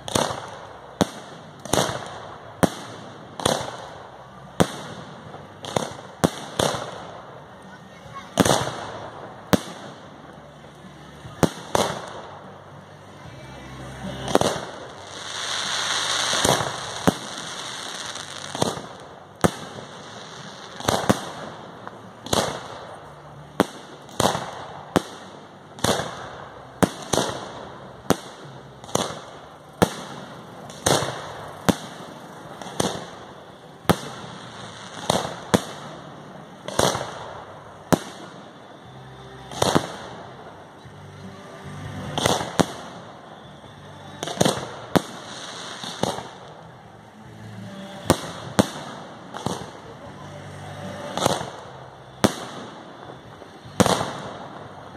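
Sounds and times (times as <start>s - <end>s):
firework crackling: 0.0s - 54.9s.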